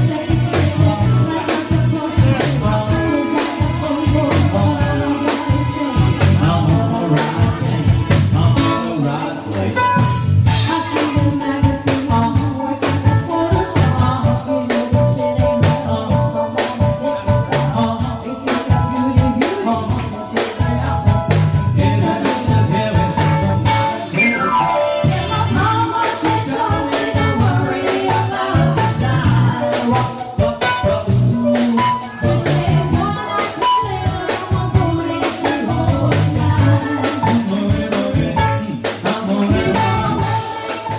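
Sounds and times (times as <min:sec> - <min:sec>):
drum kit beat: 0:00.0 - 0:40.9
live band playing dance music: 0:00.0 - 0:40.9
person singing: 0:00.0 - 0:40.9.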